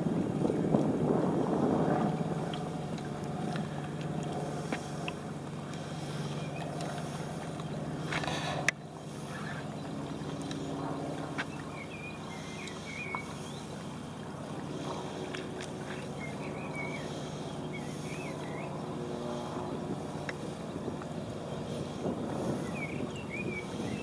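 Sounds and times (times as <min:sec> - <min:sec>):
low hum: 0:00.0 - 0:24.0
rippling water: 0:00.0 - 0:24.0
wind: 0:00.0 - 0:24.0
small birds chirping: 0:04.6 - 0:24.0.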